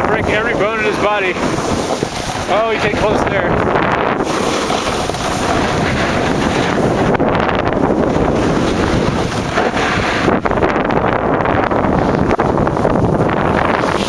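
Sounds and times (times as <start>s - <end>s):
wind rushing over microphone: 0.0s - 14.0s
snow scraping underfoot: 0.2s - 10.4s, 11.9s - 14.0s.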